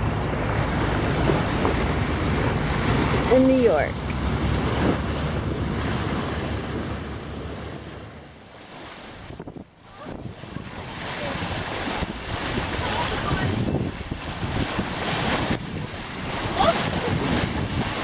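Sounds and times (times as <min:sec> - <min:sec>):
water rushing: 0:00.0 - 0:18.0
wind buffeting microphone: 0:00.0 - 0:18.0.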